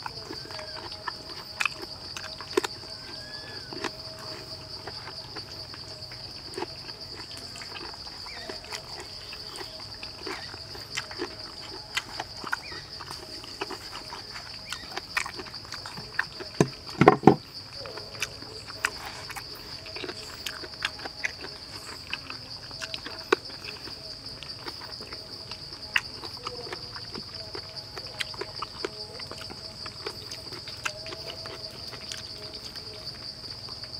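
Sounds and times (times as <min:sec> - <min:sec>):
high buzzing of insects: 0:00.0 - 0:33.9.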